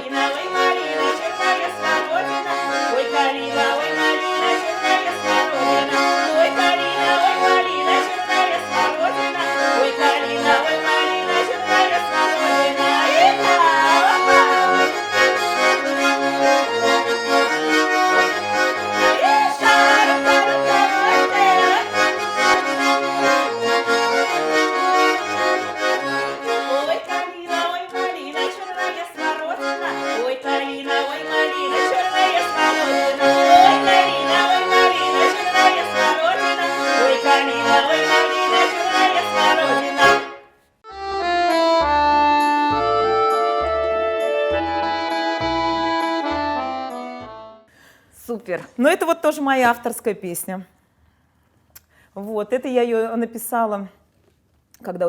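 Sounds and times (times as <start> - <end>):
folk song with accordion: 0.0 - 48.2.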